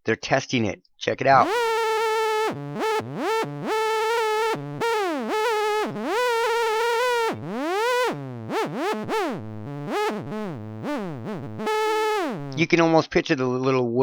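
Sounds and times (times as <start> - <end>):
buzzy horn-like electronic tone: 1.4 - 12.6.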